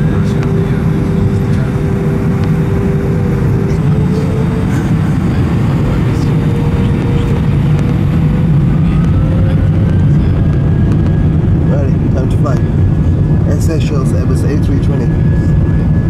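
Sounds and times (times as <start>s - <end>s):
jet engine cabin rumble: 0.0s - 16.0s.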